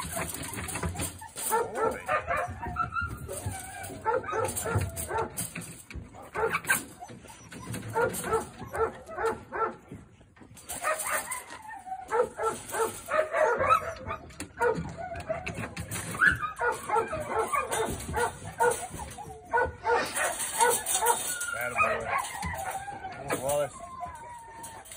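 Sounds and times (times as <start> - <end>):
dog whining and yipping: 0.0 - 9.6, 10.7 - 24.9.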